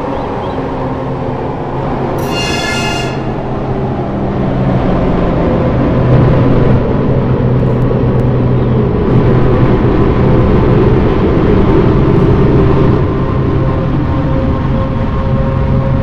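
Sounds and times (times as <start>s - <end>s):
constant low hum: 0.0s - 16.0s
train wheels rumbling on rail: 0.0s - 16.0s.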